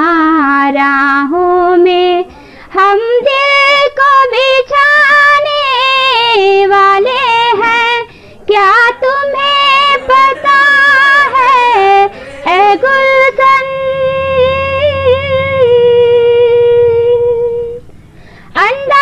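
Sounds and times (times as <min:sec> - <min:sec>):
woman singing unaccompanied: 0:00.0 - 0:17.9, 0:18.5 - 0:19.0.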